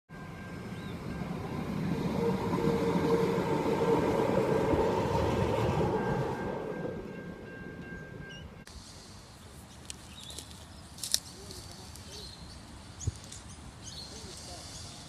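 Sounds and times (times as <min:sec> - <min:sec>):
rail vehicle rolling on track: 0:00.1 - 0:15.0.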